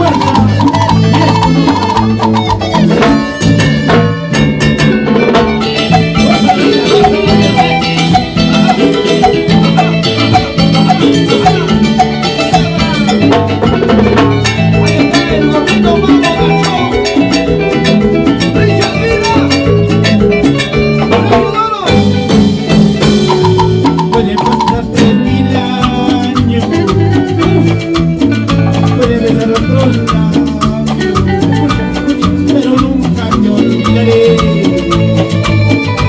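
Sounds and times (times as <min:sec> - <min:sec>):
band playing latin dance music: 0:00.0 - 0:36.0.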